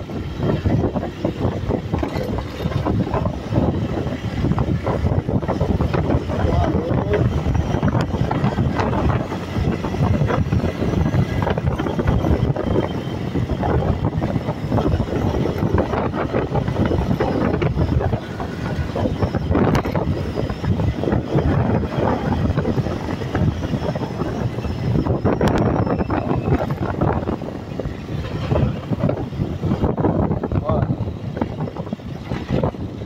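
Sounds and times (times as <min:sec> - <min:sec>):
motorcycle engine running: 0:00.0 - 0:33.0
wind rushing: 0:00.0 - 0:33.0.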